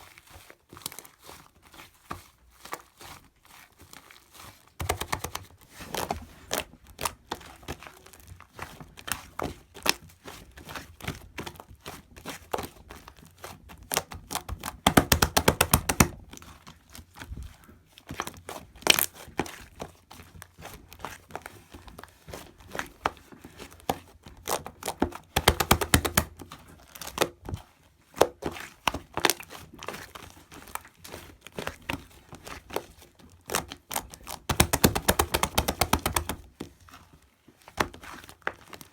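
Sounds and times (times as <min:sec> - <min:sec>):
hands squishing shaving foam: 0:00.0 - 0:38.9.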